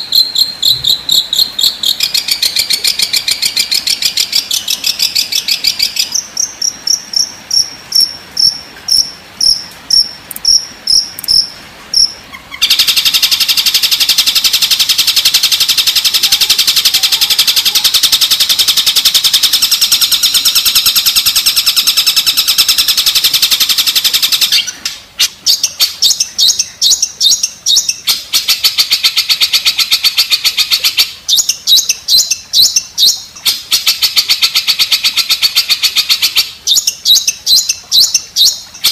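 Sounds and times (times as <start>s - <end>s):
songbird chirps: 0.0s - 38.9s.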